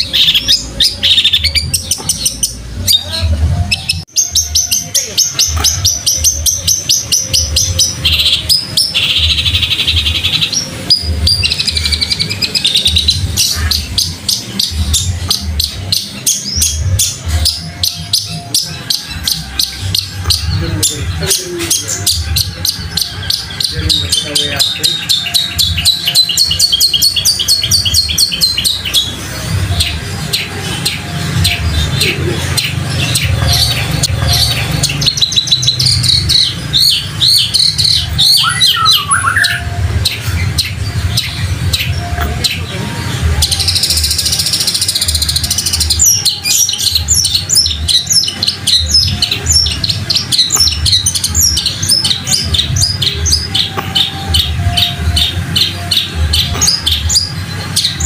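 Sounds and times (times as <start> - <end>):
bird singing fast chirps: 0.0 - 58.0.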